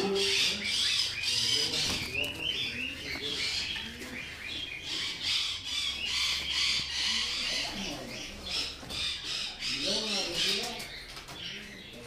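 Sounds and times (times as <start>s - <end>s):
birds chirping and squawking: 0.0s - 12.0s
pigeons cooing: 0.0s - 12.0s.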